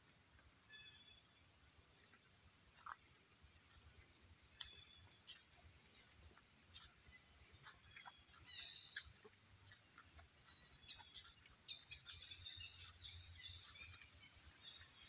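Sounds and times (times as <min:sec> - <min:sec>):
faint bird chirps and trills: 0:00.6 - 0:02.2, 0:04.4 - 0:15.0.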